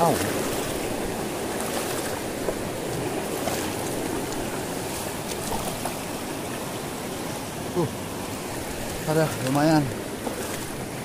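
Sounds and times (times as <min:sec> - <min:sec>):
rush of flowing water: 0:00.0 - 0:11.0.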